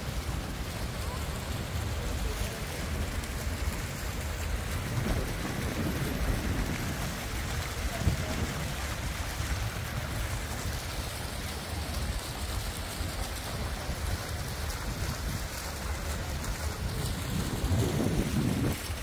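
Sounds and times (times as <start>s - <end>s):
fountain water splashing: 0.0s - 19.0s
wind rumbling on microphone: 0.0s - 19.0s.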